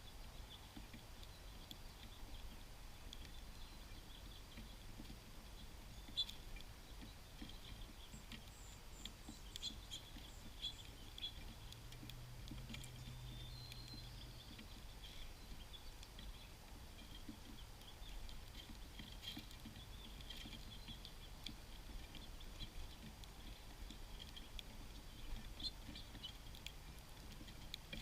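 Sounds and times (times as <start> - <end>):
songbirds chipping: 0.0 - 28.0.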